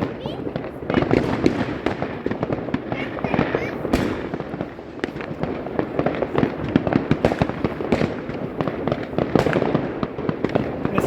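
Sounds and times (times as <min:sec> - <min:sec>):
fireworks and firecrackers banging: 0:00.0 - 0:11.0.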